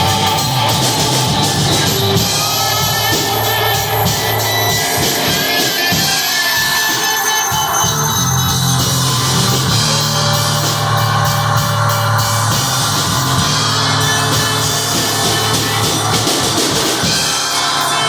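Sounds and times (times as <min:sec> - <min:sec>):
low bass drone: 0:00.0 - 0:06.2, 0:07.7 - 0:16.9
drum kit with cymbals: 0:00.0 - 0:18.0
sustained tones: 0:00.0 - 0:18.0.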